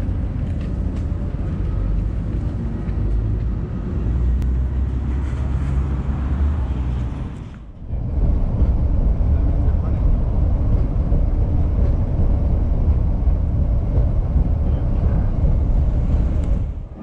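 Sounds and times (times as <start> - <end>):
city traffic rumble: 0.0 - 17.0
vehicle crossing a bridge: 0.0 - 17.0.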